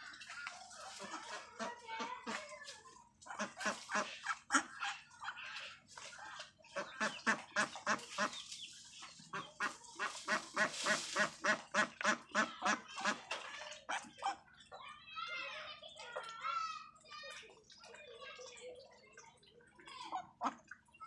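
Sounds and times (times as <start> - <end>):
ducks quacking: 0.0 - 14.7, 18.6 - 21.0.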